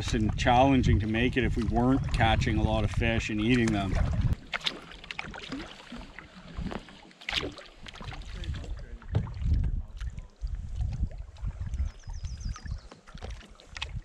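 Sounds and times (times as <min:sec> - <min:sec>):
paddles splashing in water: 0:00.0 - 0:14.0.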